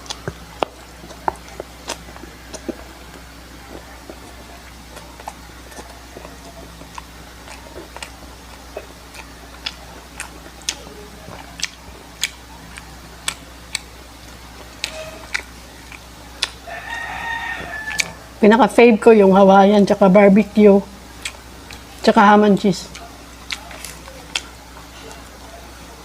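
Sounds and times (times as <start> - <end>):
crunchy food chewing: 0.0 - 18.4, 20.8 - 22.2, 22.8 - 26.0.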